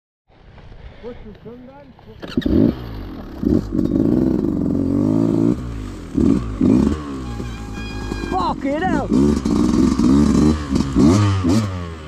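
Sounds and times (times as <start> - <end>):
motorcycle engine revving: 2.2 - 12.0.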